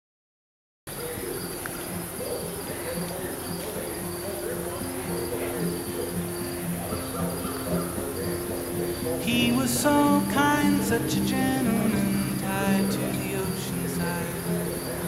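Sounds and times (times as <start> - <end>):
crickets chirping: 0.9 - 15.0
soft music: 2.7 - 15.0.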